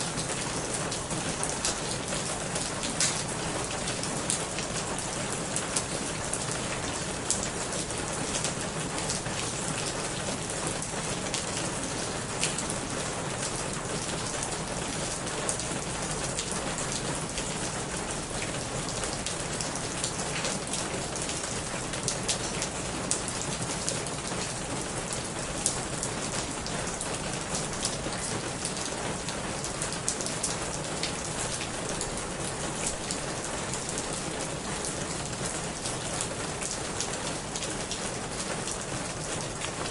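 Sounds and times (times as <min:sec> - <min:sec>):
rain on a corrugated roof: 0:00.0 - 0:39.9.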